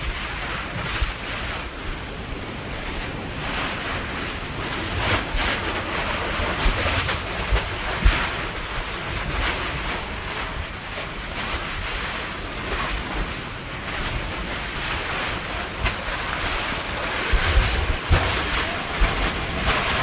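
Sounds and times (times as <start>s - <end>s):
surf washing against shore: 0.0s - 20.0s
wind buffeting microphone: 0.0s - 20.0s.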